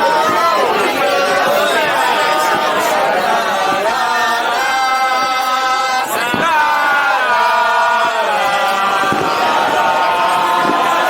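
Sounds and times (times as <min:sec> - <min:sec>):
music with choir-like chanting: 0:00.0 - 0:11.0.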